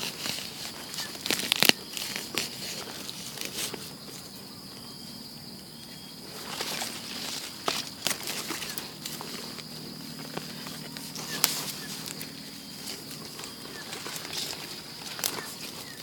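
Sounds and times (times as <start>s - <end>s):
twigs snapping: 0.0s - 3.8s, 6.5s - 16.0s
dry leaves rustling underfoot: 0.0s - 16.0s.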